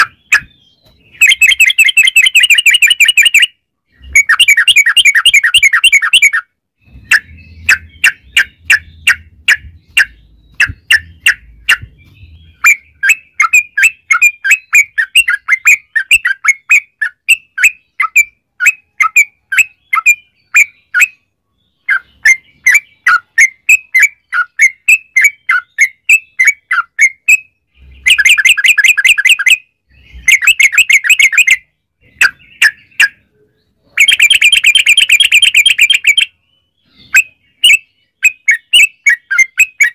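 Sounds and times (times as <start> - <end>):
bird singing chattering runs: 0.0 - 39.9.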